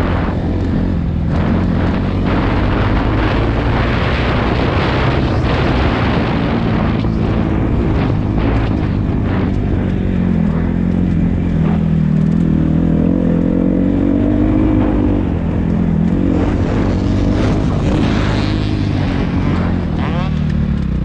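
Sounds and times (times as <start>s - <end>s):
dirt bike engine running: 0.0s - 21.0s
wind noise: 0.0s - 21.0s.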